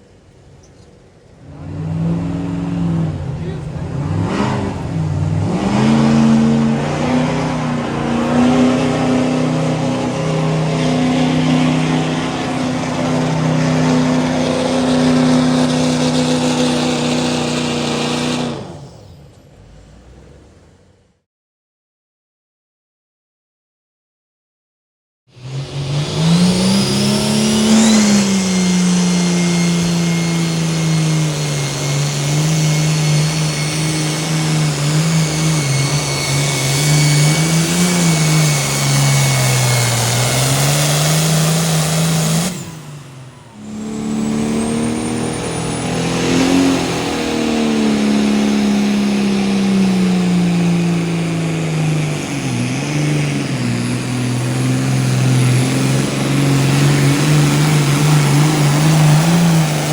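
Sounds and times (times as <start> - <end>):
engine running at high revs: 1.4 - 20.9, 25.3 - 59.9.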